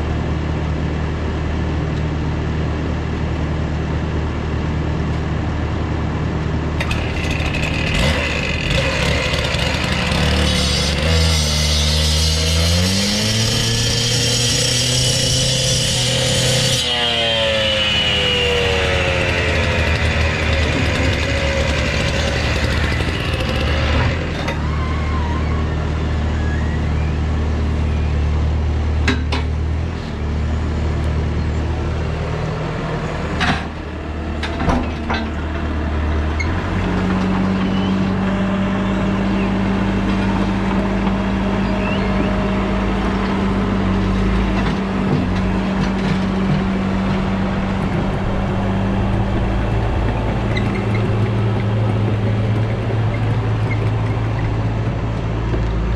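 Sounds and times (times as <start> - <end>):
diesel loader engine under load: 0.0 - 55.9.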